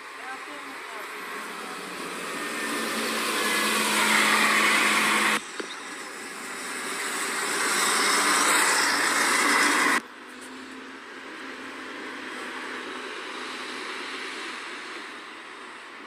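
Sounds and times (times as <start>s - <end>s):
buses driving past: 0.0s - 16.0s.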